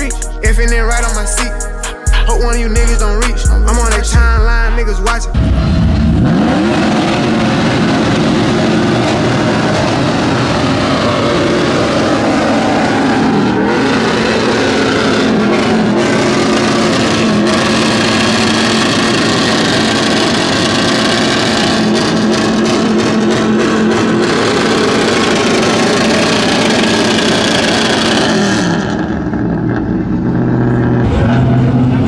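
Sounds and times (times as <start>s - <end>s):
truck engine roaring: 0.0s - 32.0s.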